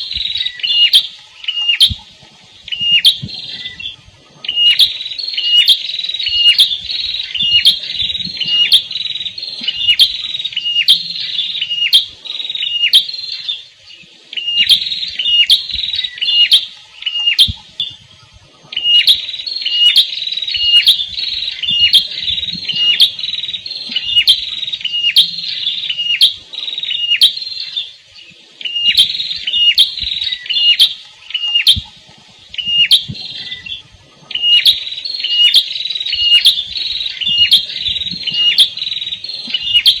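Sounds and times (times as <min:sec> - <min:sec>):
bird chirping rapidly: 0:00.0 - 0:02.0, 0:02.7 - 0:13.6, 0:14.4 - 0:18.0, 0:18.8 - 0:28.0, 0:28.6 - 0:40.0.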